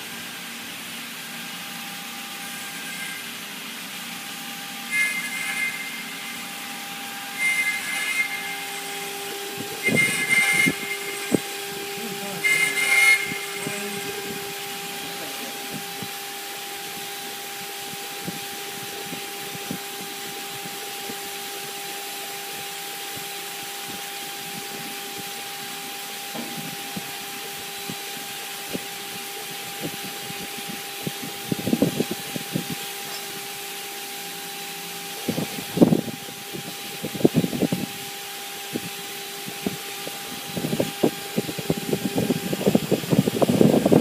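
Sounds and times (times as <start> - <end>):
end mill cutting wood: 0.0 - 44.0
router spindle whine and hiss: 0.0 - 44.0.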